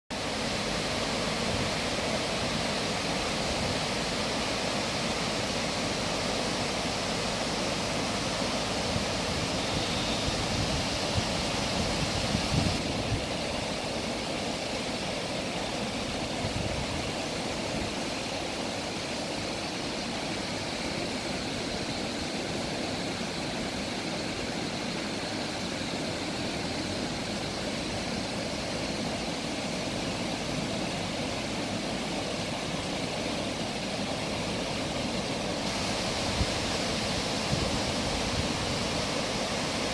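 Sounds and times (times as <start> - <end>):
rushing waterfalls: 0.1 - 39.9.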